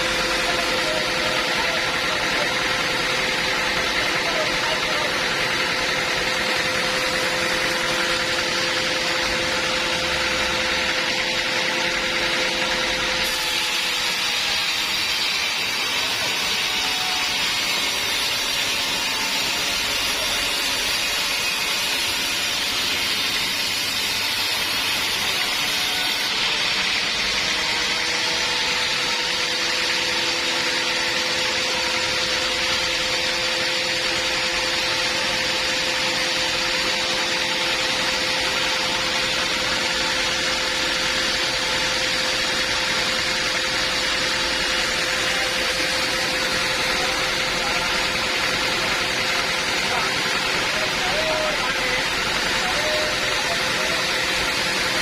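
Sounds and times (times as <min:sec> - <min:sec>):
band sawmill humming: 0:00.0 - 0:55.0
saw blade cutting wood: 0:00.0 - 0:55.0.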